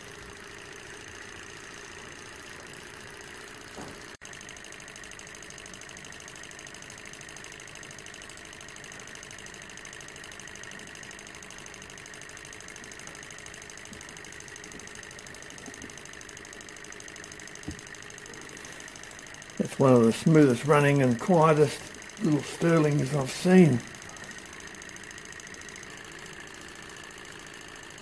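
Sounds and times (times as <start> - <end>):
engine mechanical whir: 0.0 - 28.0.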